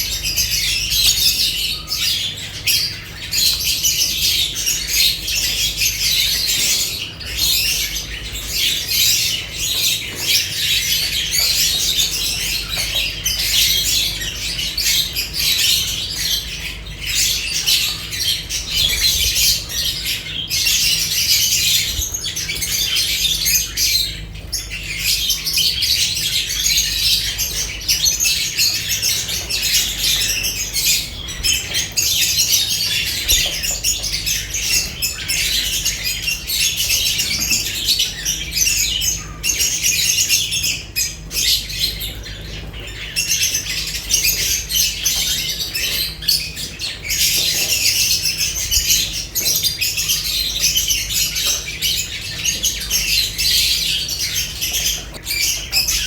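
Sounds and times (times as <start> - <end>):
parrots chattering and squawking: 0.0 - 56.0.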